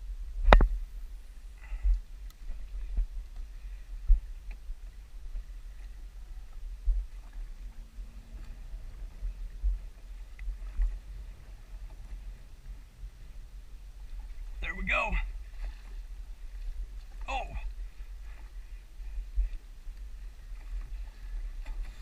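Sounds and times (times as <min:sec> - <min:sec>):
low hum: 0:00.0 - 0:22.0
water lapping against boat hull: 0:01.7 - 0:22.0.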